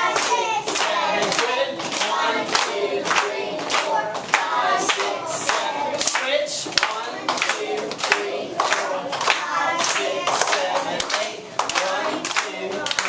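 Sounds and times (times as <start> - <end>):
children singing: 0.0 - 13.0
rhythmic hand clapping: 0.0 - 13.0.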